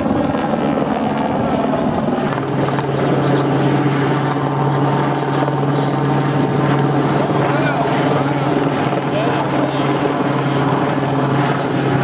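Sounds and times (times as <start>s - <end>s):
model helicopter rotor humming: 0.0s - 12.0s.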